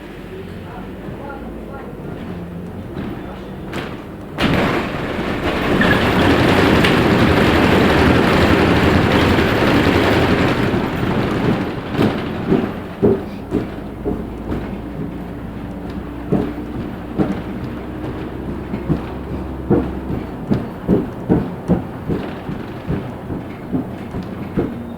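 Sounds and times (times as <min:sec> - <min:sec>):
loud rumbling inside moving bus: 0:00.0 - 0:24.9
short knocks and clunks: 0:01.0 - 0:24.9.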